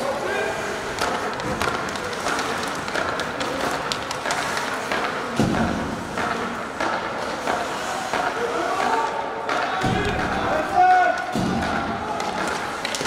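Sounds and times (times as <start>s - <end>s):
murmur of spectators: 0.0s - 13.0s
skates scraping on ice: 0.0s - 13.0s
sticks and puck clacking: 0.0s - 13.0s.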